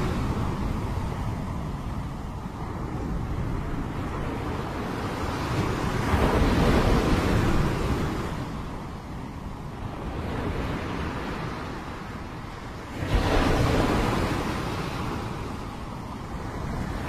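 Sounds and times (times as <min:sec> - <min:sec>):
low rumble of surf: 0:00.0 - 0:17.0.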